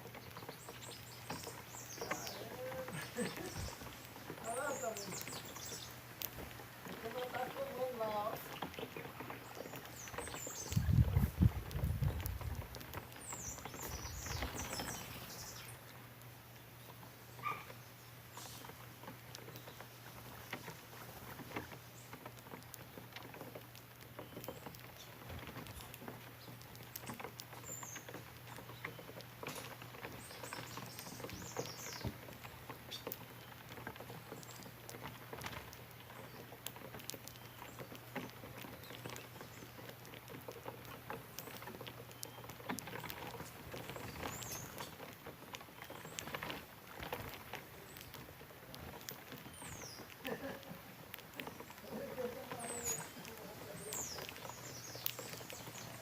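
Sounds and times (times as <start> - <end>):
beaks pecking at corn: 0.0 - 56.0.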